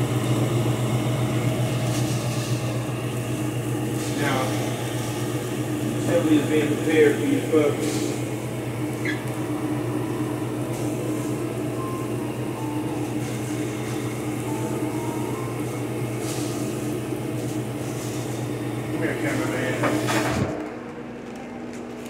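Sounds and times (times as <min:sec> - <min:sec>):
range hood fan humming: 0:00.0 - 0:22.0.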